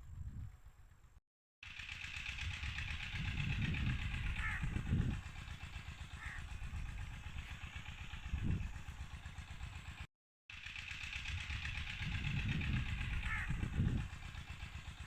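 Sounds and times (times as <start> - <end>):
engine running with low pulsing: 0.0 - 15.0.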